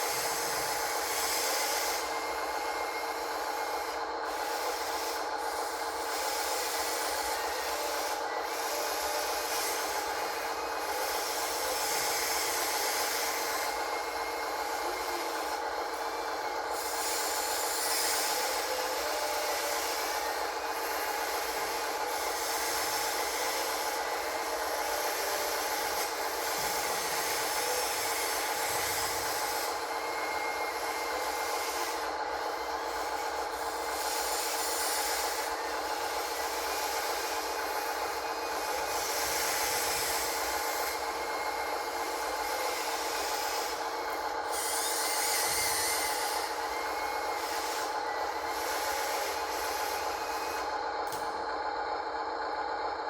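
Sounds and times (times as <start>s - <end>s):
electric motor whine: 0.0s - 52.5s.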